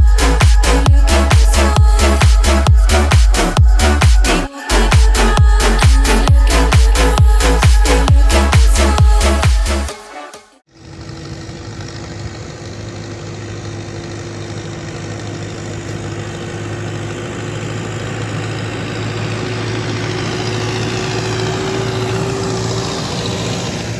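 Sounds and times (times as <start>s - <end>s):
engine whine: 0.0s - 9.9s, 10.6s - 23.9s
tractor diesel engine running: 0.0s - 9.9s, 10.6s - 23.9s.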